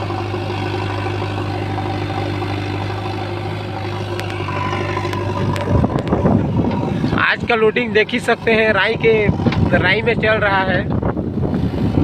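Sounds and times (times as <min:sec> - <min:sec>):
diesel engine idling: 0:00.0 - 0:12.0
wind rumble on microphone: 0:00.0 - 0:12.0.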